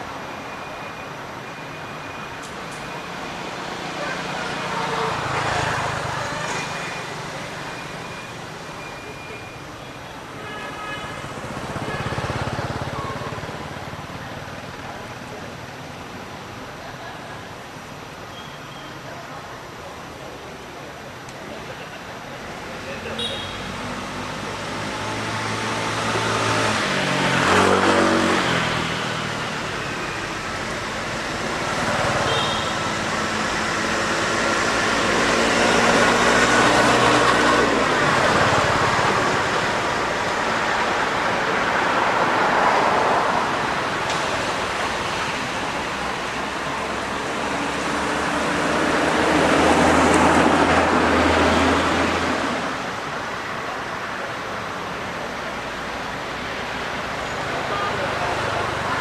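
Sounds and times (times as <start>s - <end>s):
steady traffic hum: 0.0s - 59.0s
vehicles driving past: 0.0s - 59.0s.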